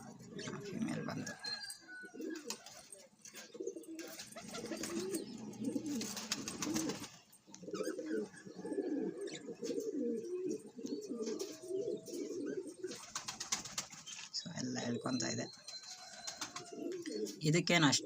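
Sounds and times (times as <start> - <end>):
pigeons cooing: 0.0 - 14.0, 14.6 - 18.0.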